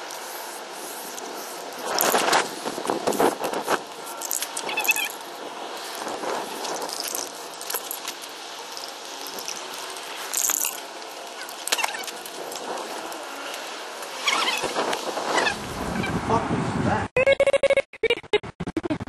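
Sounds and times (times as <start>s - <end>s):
skateboard rolling on rough pavement: 0.0s - 16.1s.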